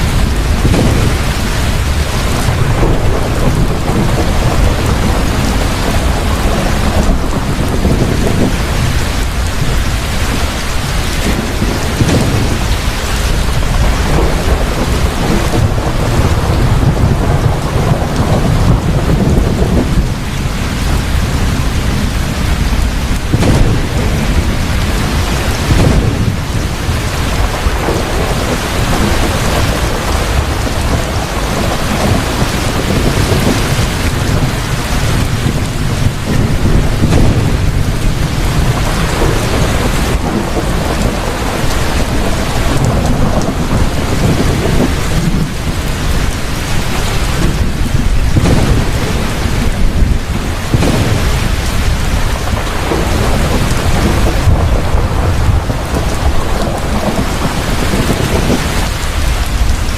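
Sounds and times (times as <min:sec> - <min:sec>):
heavy rain falling: 0:00.0 - 0:59.9
low rolling thunder: 0:00.0 - 0:59.9.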